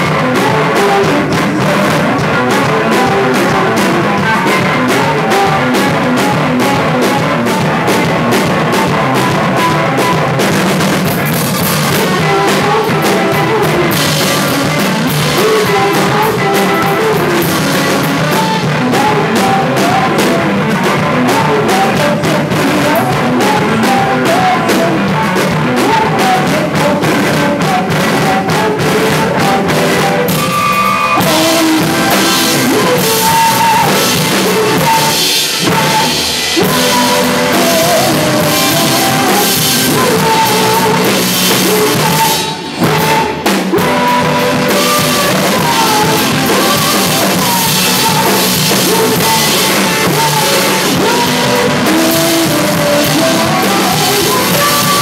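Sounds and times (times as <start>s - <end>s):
person singing: 0.0s - 55.0s
rock band playing: 0.0s - 55.0s.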